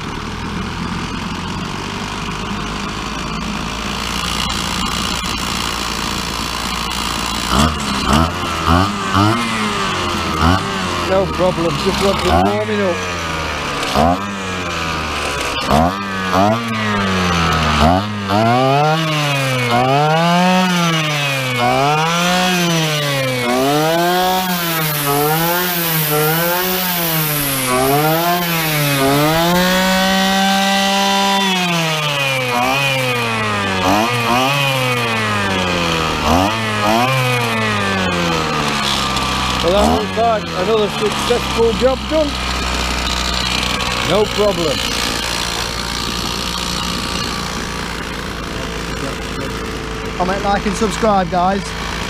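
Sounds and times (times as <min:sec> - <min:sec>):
string trimmer engine revving: 0:00.0 - 0:52.0.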